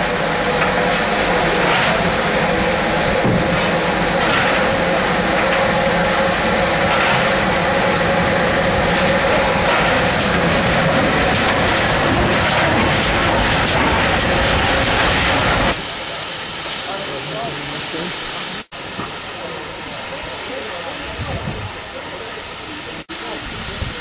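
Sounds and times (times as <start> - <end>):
steam train passing on rails: 0.0 - 24.0.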